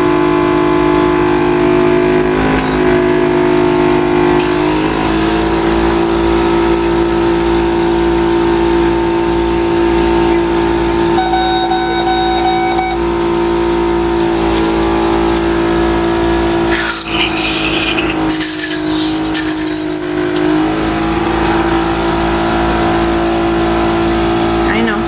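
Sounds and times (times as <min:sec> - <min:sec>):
machine blower humming: 0:00.0 - 0:25.0.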